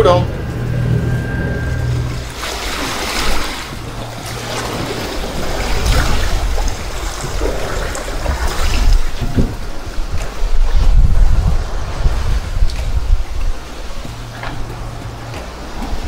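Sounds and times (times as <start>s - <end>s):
low rumble: 0.0s - 16.0s
water rushing along hull: 0.0s - 16.0s.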